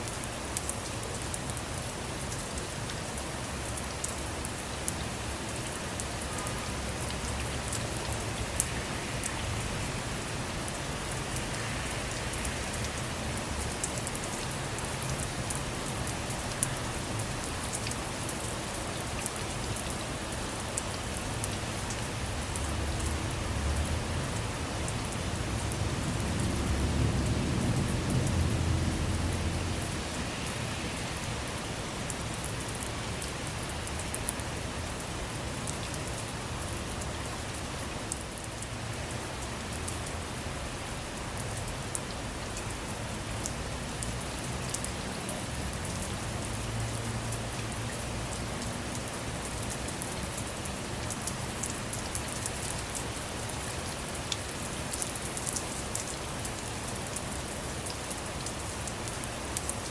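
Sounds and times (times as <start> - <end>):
rain falling on a car: 0.0 - 59.9.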